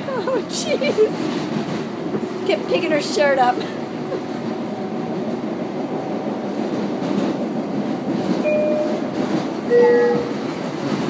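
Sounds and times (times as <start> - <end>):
train rumble and rattle: 0.0 - 11.0.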